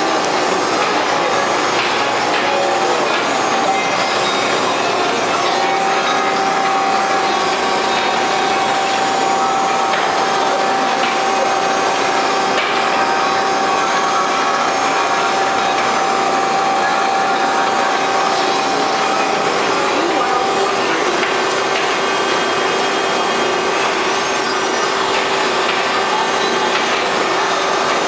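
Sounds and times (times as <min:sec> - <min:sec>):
baler motor running with whine: 0:00.0 - 0:28.0.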